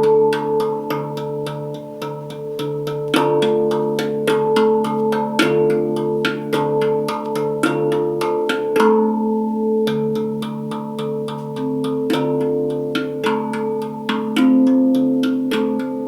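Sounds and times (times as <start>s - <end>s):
handpan played by hand: 0.0s - 16.0s.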